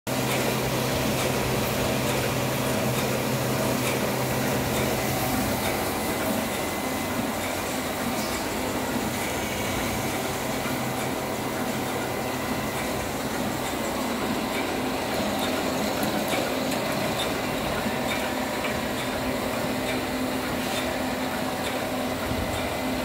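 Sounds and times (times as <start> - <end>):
motor hum: 0.1 - 23.0
printing press whirring: 0.1 - 23.0.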